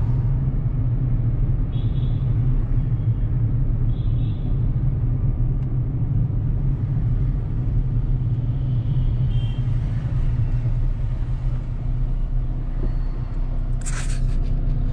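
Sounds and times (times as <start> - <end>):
car engine and tyre noise: 0.0 - 14.9.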